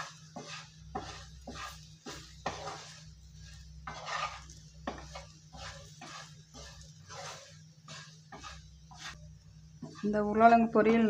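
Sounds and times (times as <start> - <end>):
spatula scraping frying pan: 0.0 - 11.0.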